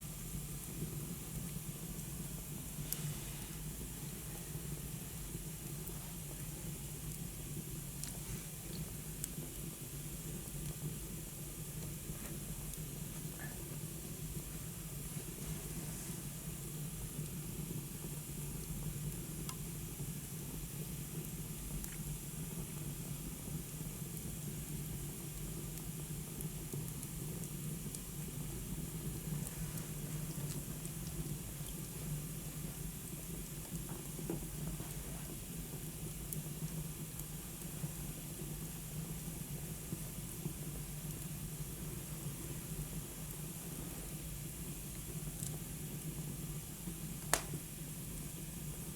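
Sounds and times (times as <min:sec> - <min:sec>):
wood fire hissing and crackling: 0:00.0 - 0:48.9.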